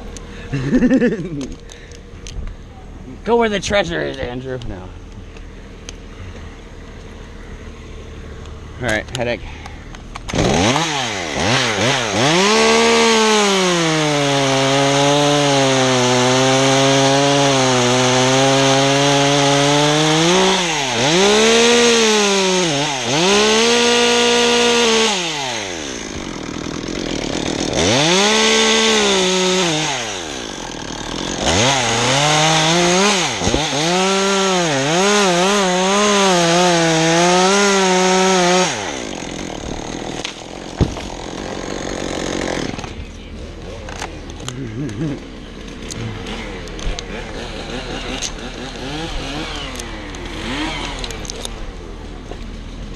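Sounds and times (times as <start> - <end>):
chainsaw cutting wood: 9.6 - 52.9.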